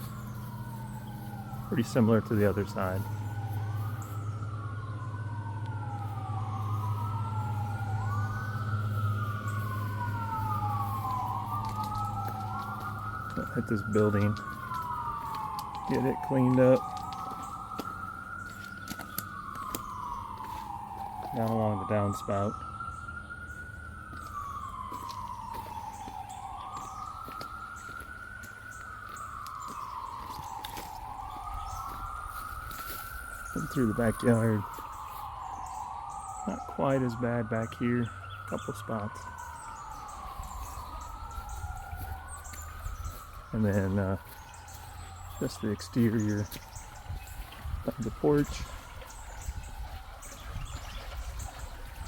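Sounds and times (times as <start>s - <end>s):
sirens wailing: 0.0s - 52.0s
steady low hum: 0.0s - 52.0s.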